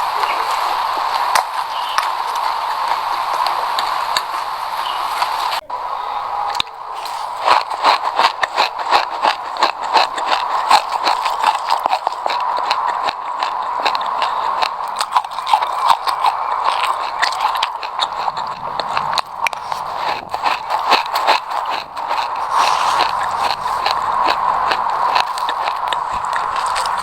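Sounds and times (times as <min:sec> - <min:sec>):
chewing crunchy seeds: 0:00.0 - 0:05.6, 0:06.5 - 0:27.0.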